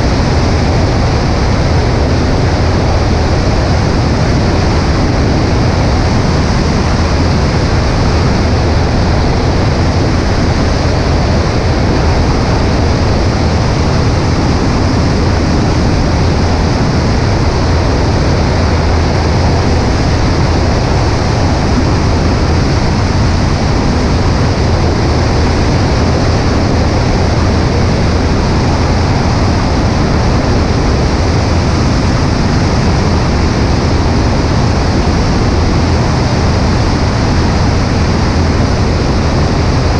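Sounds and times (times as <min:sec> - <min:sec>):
aircraft engine and propeller drone: 0:00.0 - 0:39.9
loud wind rushing: 0:00.0 - 0:39.9.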